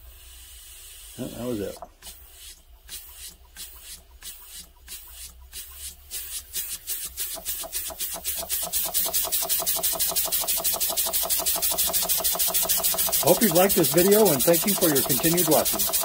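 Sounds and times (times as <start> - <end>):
air engine exhaust chuffing: 0.0 - 16.0.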